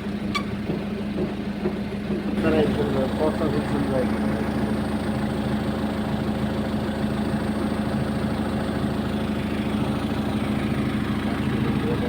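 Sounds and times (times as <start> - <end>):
diesel engine running steadily: 0.0 - 12.0.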